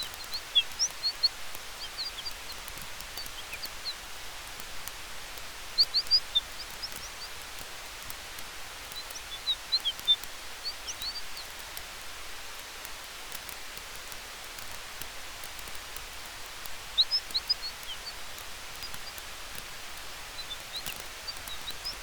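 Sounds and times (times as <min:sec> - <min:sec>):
campfire hiss and crackling: 0:00.0 - 0:22.0.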